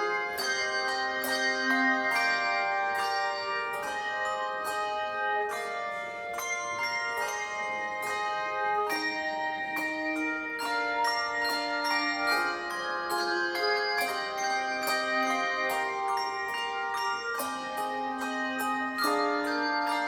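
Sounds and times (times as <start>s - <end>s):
handbell choir playing: 0.0s - 20.0s.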